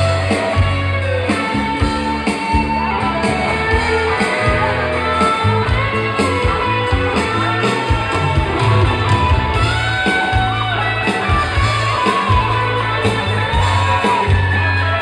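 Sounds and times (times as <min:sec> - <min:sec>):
electric guitar: 0:00.0 - 0:15.0
live band playing dance music: 0:00.0 - 0:15.0
steady drum beat: 0:00.0 - 0:15.0.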